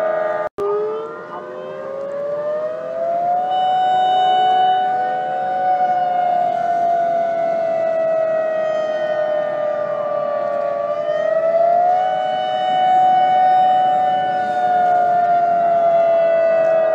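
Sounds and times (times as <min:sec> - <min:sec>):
siren wailing: 0:00.0 - 0:16.9.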